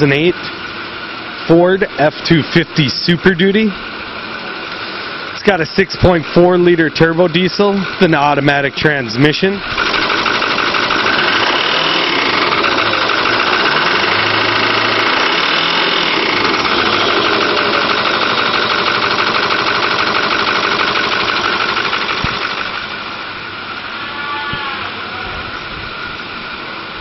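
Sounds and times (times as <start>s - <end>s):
diesel engine clattering: 0.0s - 24.2s.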